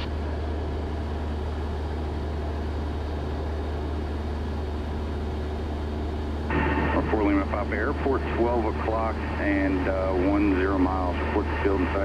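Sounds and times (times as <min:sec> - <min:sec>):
small plane engine drone in cabin: 0:00.0 - 0:12.0.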